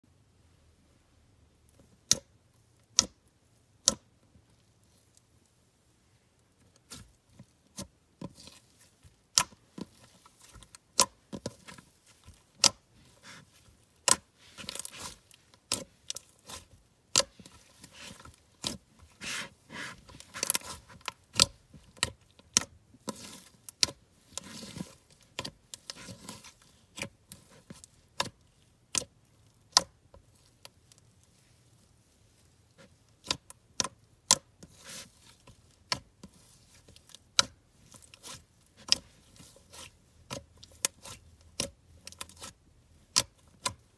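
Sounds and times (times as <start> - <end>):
slime crackling: 6.7 - 43.9.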